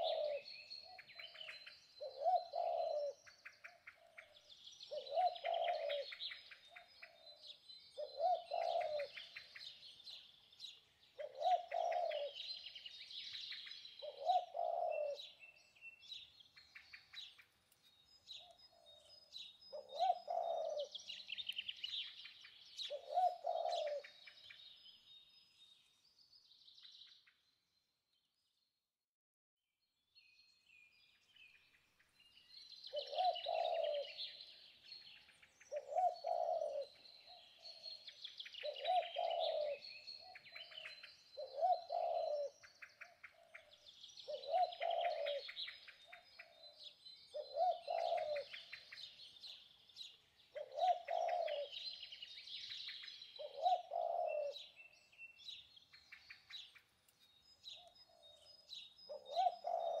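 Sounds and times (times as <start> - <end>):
small birds chirping and trilling: 0.0 - 28.7, 29.8 - 60.0.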